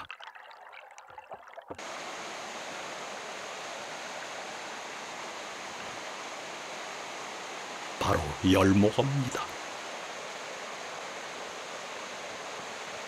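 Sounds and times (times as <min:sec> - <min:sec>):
stream rushing over rocks: 0:01.8 - 0:13.0.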